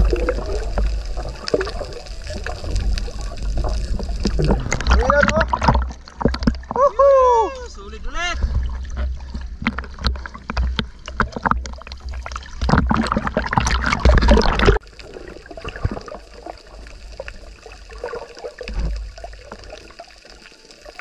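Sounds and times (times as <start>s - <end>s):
muffled underwater sound: 0.0s - 21.0s
seawater splashing: 0.0s - 21.0s.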